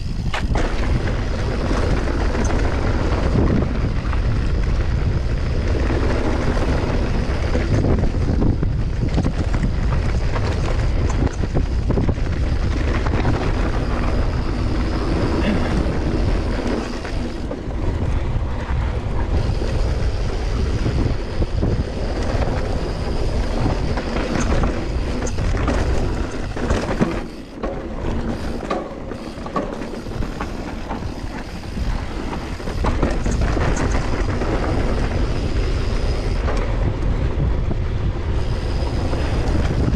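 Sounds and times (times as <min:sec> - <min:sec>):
bike knocks and rattles: 0:00.0 - 0:39.9
bike tyre noise: 0:00.0 - 0:39.9
wind rushing over microphone: 0:00.0 - 0:39.9.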